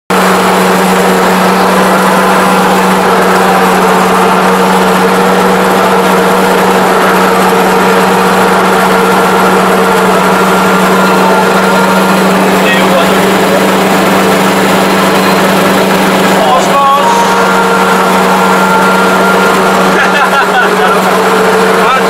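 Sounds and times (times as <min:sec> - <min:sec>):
combine harvester engine droning: 0:00.1 - 0:22.0.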